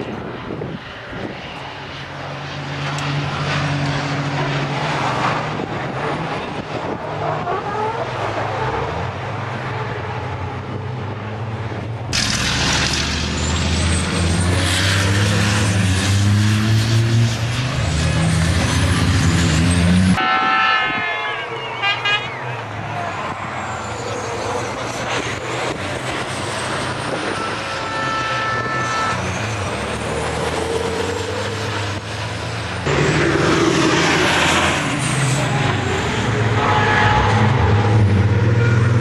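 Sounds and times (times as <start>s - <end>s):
racing truck diesel engines: 0.0s - 39.0s.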